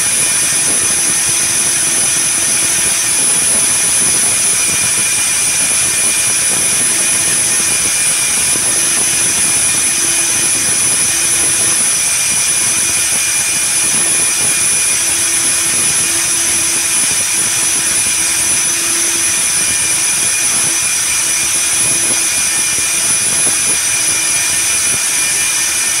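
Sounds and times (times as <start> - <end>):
core drill cutting concrete: 0.0 - 26.0.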